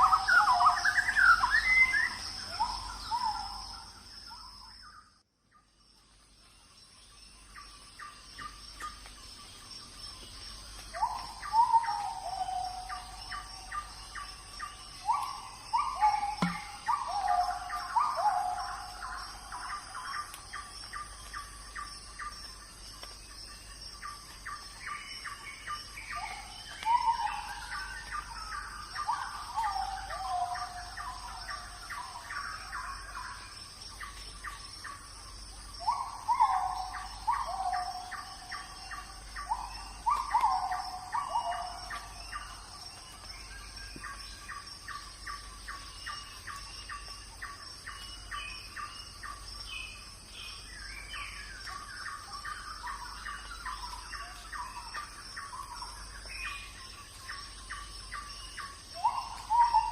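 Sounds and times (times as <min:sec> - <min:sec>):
high insect trill: 0:05.8 - 0:59.9.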